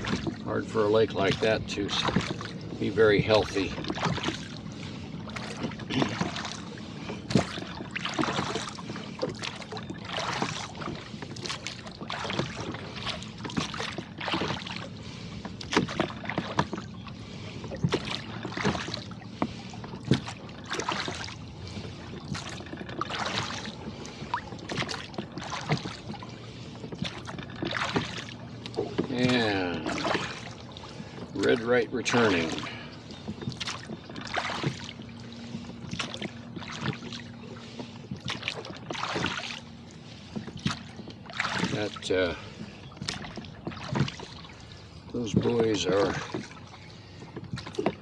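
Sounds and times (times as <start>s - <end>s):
water splashing at a rowboat: 0.0s - 48.0s.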